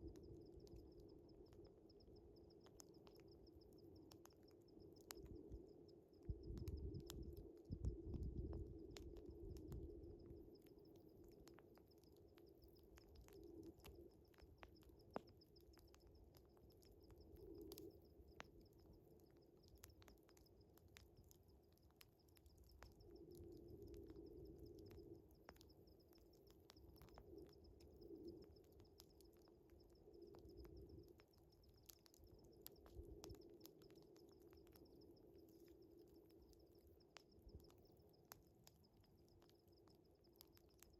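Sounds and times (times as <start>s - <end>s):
night crickets chirping: 0.0s - 40.9s
wood fire crackling: 0.0s - 40.9s.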